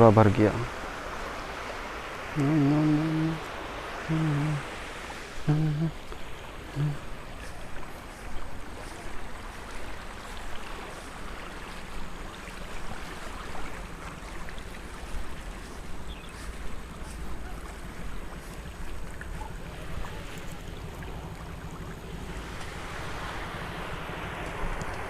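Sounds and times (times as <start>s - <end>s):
floodwater rushing: 0.0s - 25.0s
wind rumbling on microphone: 0.0s - 25.0s.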